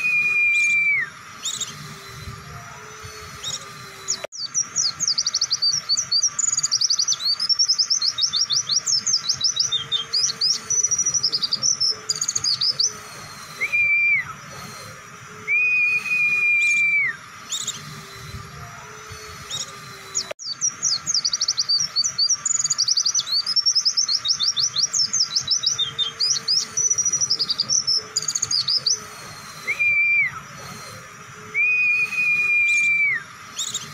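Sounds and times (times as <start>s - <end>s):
bird chirping song: 0.0s - 33.9s
bird whistles: 0.0s - 33.9s.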